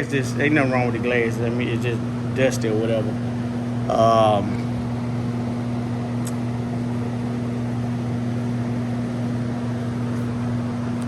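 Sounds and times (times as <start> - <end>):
machine humming with airy hiss: 0.0 - 11.0.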